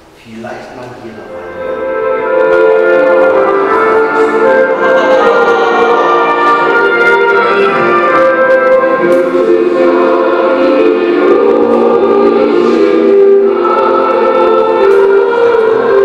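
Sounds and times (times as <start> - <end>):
orchestra playing slow chords: 1.0 - 16.0.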